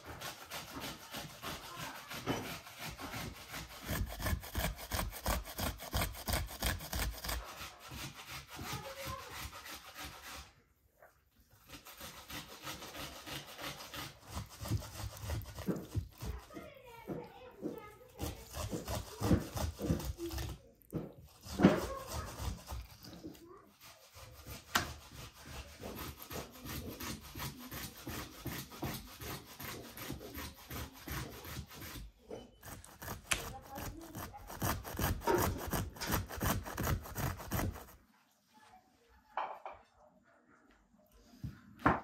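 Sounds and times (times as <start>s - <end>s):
hand grater shredding vegetable: 0.0s - 10.6s, 11.5s - 38.0s.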